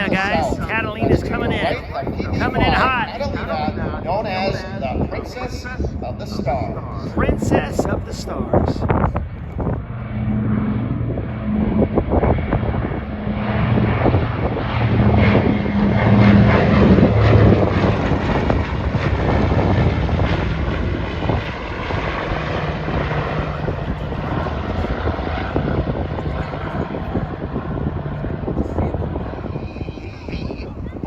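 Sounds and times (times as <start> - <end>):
propeller plane droning past: 0.0 - 31.0.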